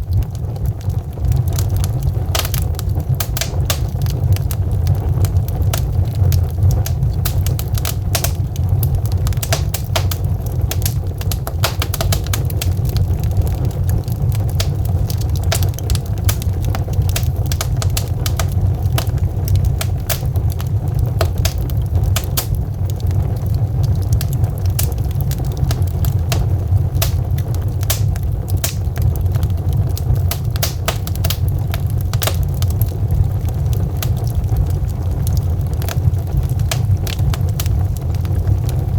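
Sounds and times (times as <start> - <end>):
logs crackling in fireplace: 0.0 - 38.9
low fire rumble: 0.0 - 38.9
sharp fire pops: 0.0 - 38.9.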